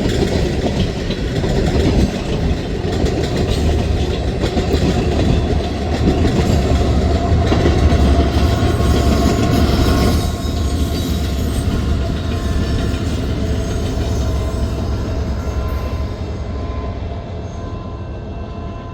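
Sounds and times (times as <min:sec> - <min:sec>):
freight train rolling past: 0:00.0 - 0:18.9.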